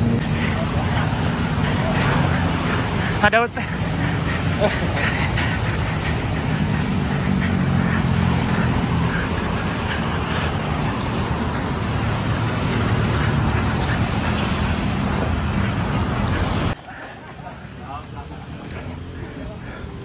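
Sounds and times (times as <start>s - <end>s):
cars and motorbikes passing: 0.0s - 20.0s.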